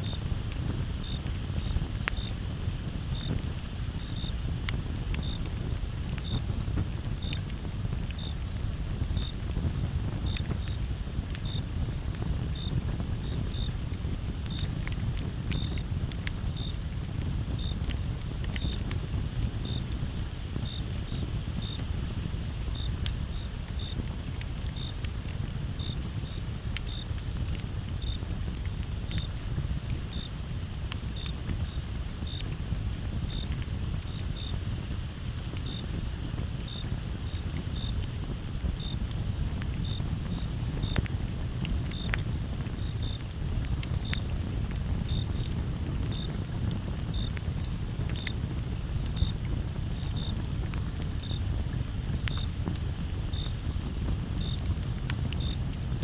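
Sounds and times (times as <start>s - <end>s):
campfire crackling: 0.0s - 56.0s
crickets chirping: 0.0s - 56.0s.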